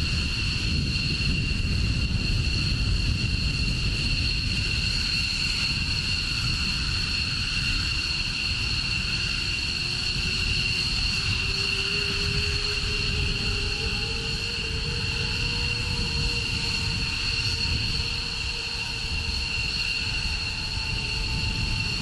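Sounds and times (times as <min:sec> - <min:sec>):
jet turbine whine: 0:00.0 - 0:22.0.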